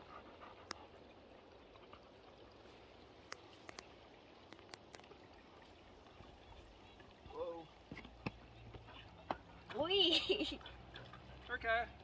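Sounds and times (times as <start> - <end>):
creek running over rocks: 0.0 - 12.0.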